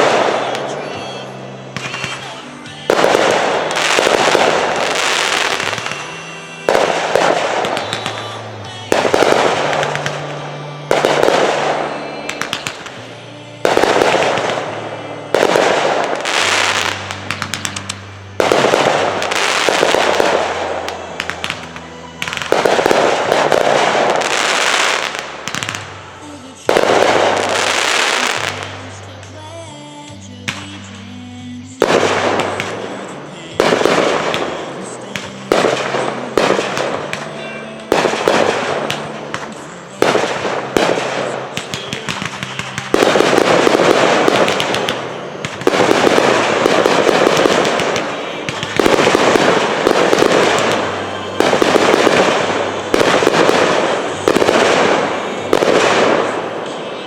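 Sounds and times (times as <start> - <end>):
fireworks banging: 0.0 - 29.4, 30.0 - 57.0
music: 0.0 - 57.0.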